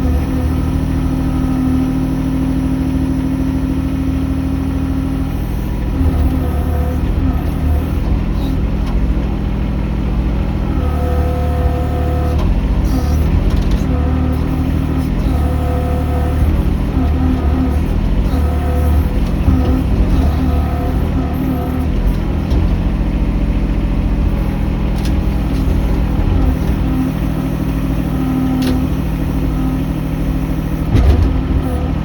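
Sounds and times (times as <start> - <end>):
excavator engine running: 0.0 - 32.0
hydraulic whine: 0.0 - 32.0.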